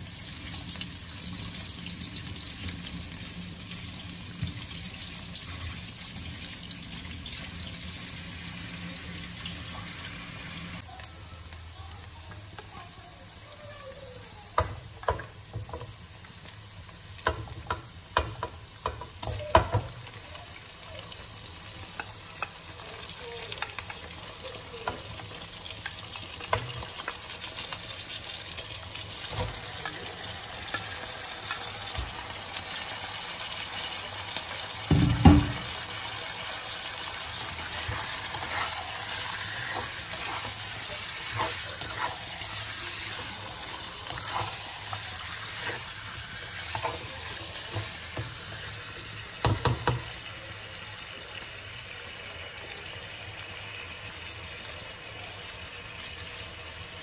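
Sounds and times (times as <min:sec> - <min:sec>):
onion sizzling in oil: 0:00.0 - 0:57.0.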